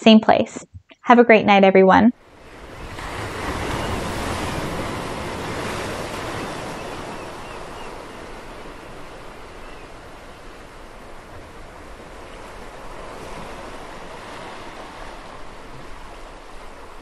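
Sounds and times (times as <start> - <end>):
ocean waves breaking on beach: 2.2 - 17.0.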